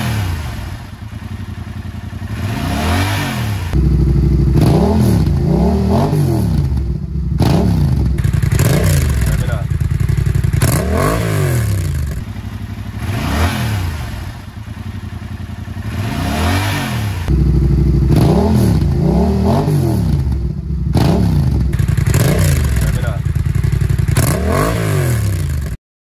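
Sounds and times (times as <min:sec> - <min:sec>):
motorcycle engine idling and revving: 0:00.0 - 0:25.8.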